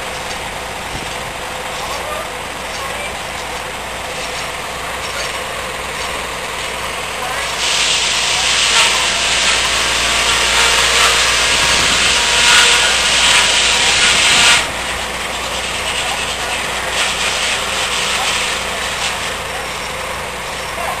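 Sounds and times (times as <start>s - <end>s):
diesel engine running: 0.0s - 21.0s
saw blade cutting log: 0.0s - 21.0s.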